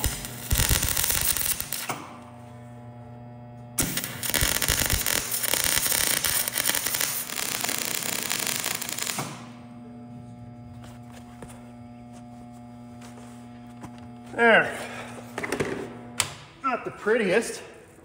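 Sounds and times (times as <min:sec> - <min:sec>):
welder arc crackling: 0:00.0 - 0:16.5
steady low hum: 0:00.0 - 0:18.0.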